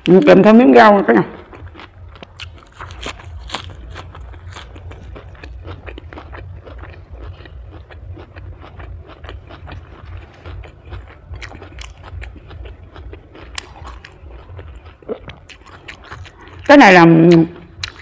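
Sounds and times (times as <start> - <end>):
low steady rumble: 0.0 - 18.0
crisp chewing crunches: 1.3 - 16.7, 17.3 - 18.0.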